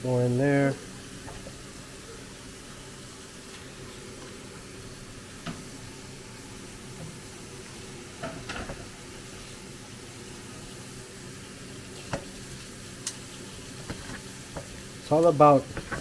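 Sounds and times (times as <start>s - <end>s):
chicken wings sizzling in oil: 0.0s - 16.0s.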